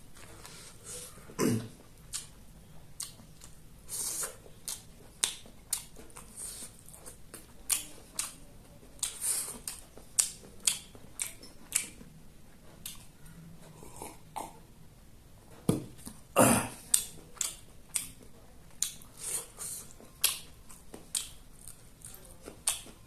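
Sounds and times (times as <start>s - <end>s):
chewing and biting food: 1.8s - 14.6s, 16.8s - 23.0s.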